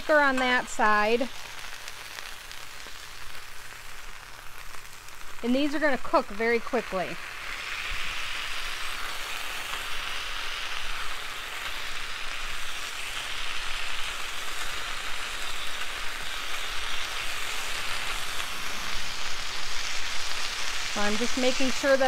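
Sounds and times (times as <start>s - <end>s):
burger patties sizzling on griddle: 0.0s - 22.0s.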